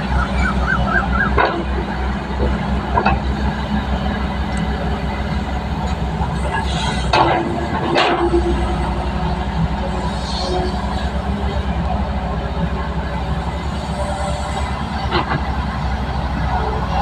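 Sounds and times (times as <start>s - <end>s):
construction machine engine rumbling: 0.0s - 17.0s.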